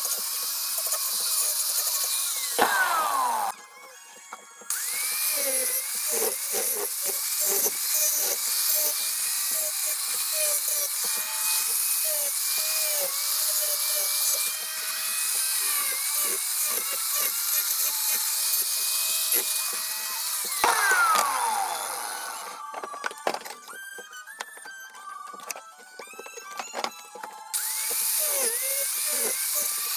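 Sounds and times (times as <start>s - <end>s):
angle grinder motor whine: 0.0s - 29.9s.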